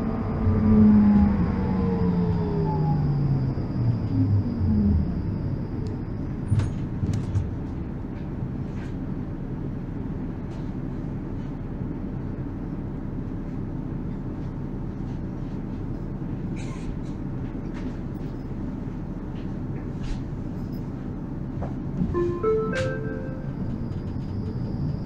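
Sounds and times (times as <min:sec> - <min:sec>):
electric tram hum and rumble: 0:00.0 - 0:25.0.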